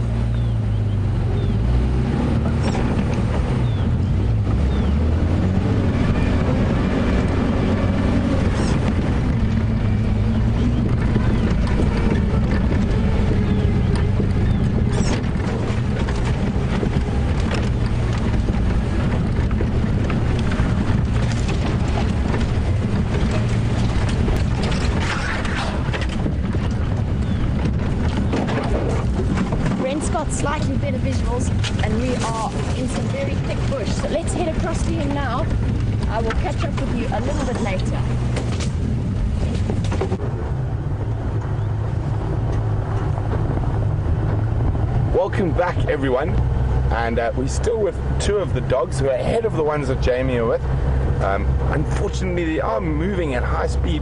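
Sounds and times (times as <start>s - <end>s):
vehicle engine running: 0.0s - 54.0s
wind on microphone: 0.0s - 54.0s
knocks and rattles: 1.3s - 54.0s.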